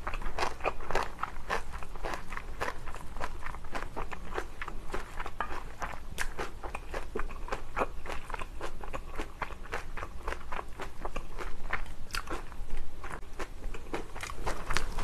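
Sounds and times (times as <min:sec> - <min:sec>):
close-miked chewing: 0:00.0 - 0:15.0.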